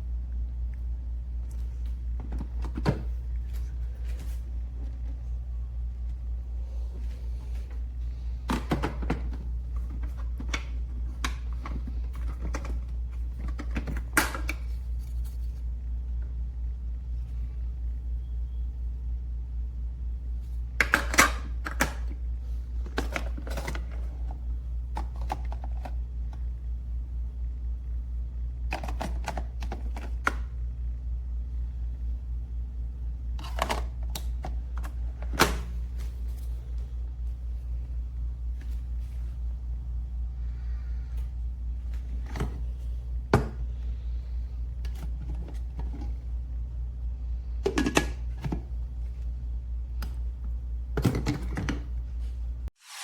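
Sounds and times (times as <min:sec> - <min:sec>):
steady low hum: 0:00.0 - 0:52.8.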